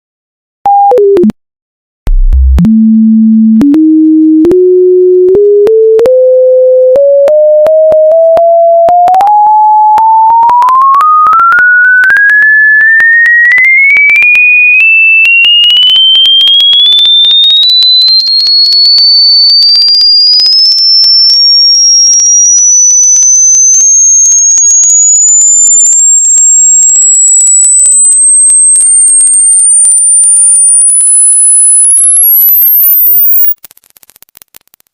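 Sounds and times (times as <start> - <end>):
electronic tone rising in steps: 2.1 - 33.6.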